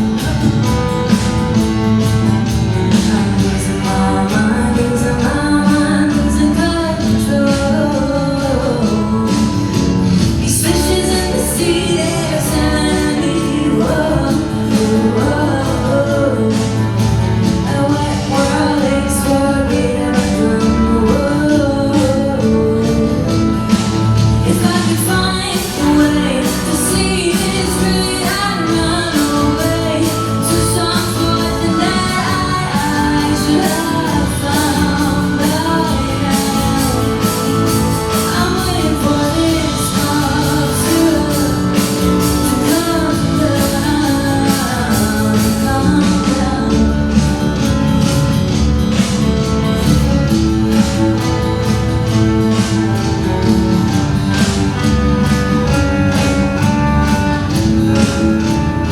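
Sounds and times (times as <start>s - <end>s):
live band playing: 0.0s - 58.9s
woman singing: 0.0s - 58.9s.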